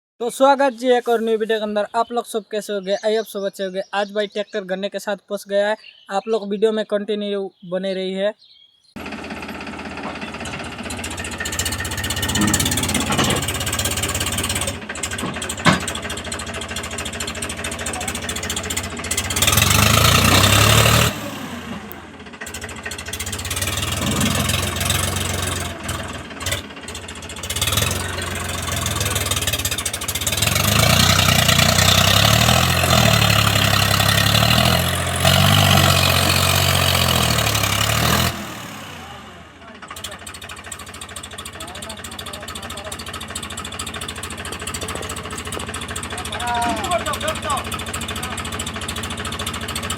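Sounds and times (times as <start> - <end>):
tractor engine revving under load: 9.0 - 49.9.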